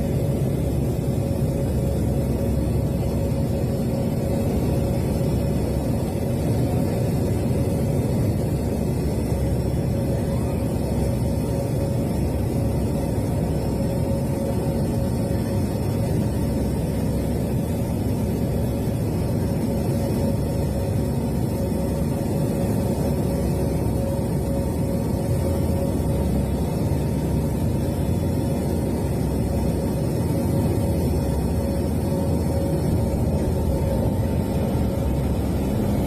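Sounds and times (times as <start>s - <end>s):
airliner engine rumble in cabin: 0.0s - 36.0s.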